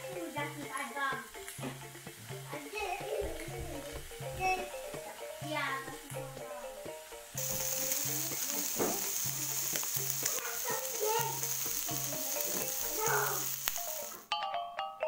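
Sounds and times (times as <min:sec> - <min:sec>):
skewers sizzling on grill pan: 0:00.0 - 0:14.3.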